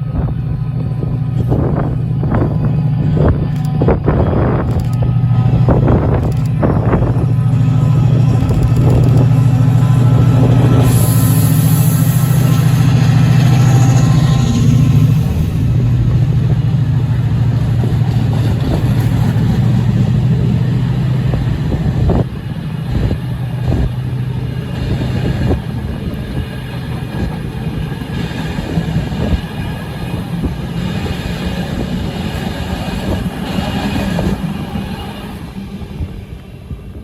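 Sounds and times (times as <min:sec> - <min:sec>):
diesel locomotive engine drone: 0:00.0 - 0:37.0
train wheels clicking over rail joints: 0:00.5 - 0:35.6.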